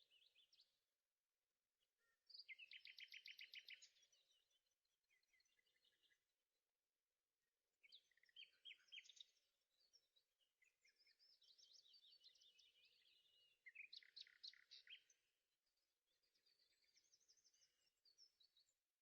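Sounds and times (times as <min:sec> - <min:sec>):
songbird singing high chirps: 0:00.0 - 0:00.8, 0:02.0 - 0:06.3, 0:07.8 - 0:18.8.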